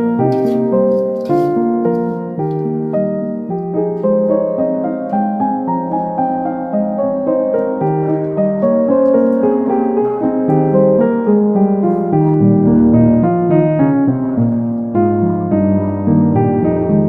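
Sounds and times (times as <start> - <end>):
piano melody with bass notes: 0.0 - 17.0.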